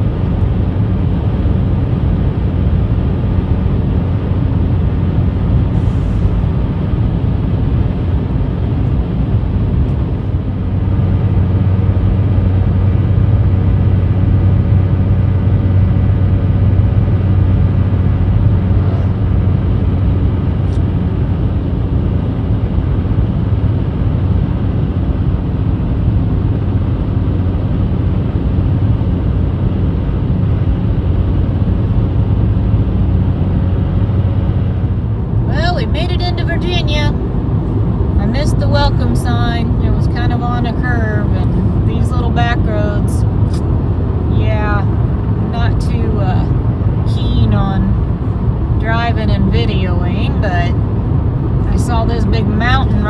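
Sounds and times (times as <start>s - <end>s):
road noise inside car: 0.0s - 53.0s
vehicle engine hum: 0.0s - 53.0s.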